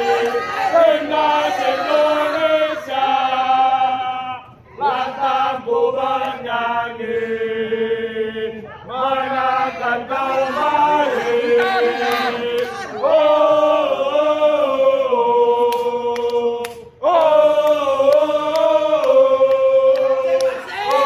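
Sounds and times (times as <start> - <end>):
crowd chanting: 0.0 - 21.0.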